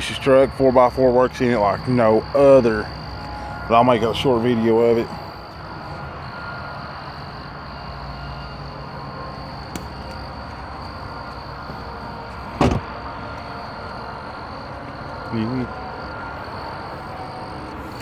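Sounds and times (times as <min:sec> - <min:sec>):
night insects trilling: 0:00.0 - 0:18.0
steady low hum: 0:00.0 - 0:18.0.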